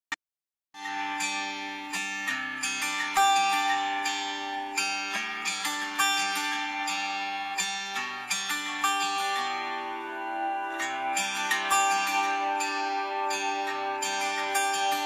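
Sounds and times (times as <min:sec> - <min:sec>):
plucked string instrument melody: 0:00.8 - 0:15.0.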